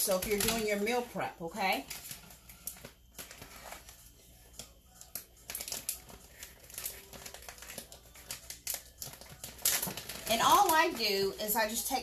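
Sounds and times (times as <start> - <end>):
plastic pouches crinkling: 0.0 - 12.0.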